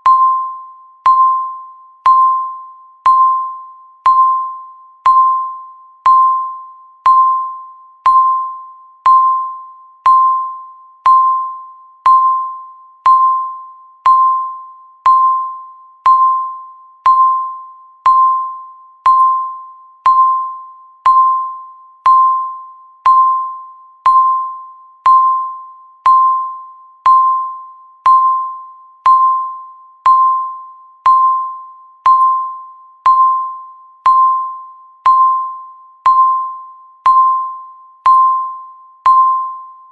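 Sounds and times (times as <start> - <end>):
timer electronic beeps: 0.0 - 39.9.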